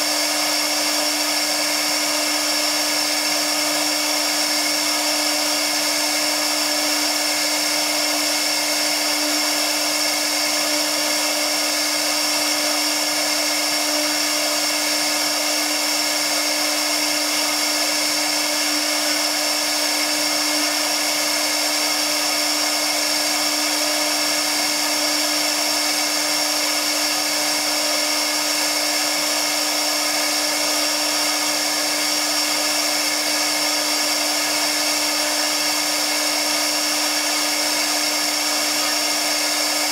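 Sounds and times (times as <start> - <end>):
router bit carving board: 0.0 - 39.9
router spindle whining: 0.0 - 39.9.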